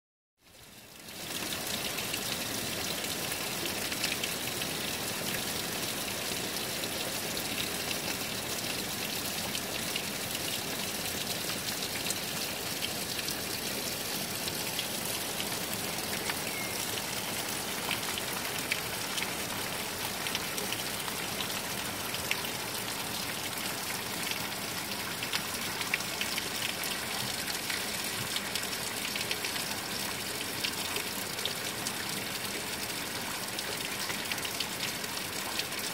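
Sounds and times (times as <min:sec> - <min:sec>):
heavy rain on roofs: 0:00.5 - 0:35.9.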